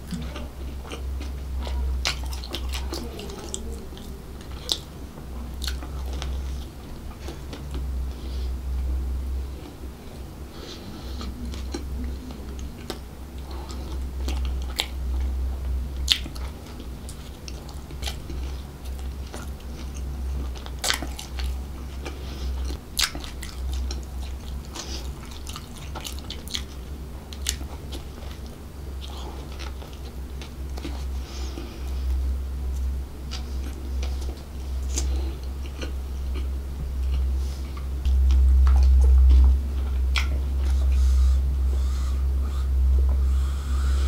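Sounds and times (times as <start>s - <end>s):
person chewing bread: 0.0s - 44.0s
steady low hum: 0.0s - 44.0s.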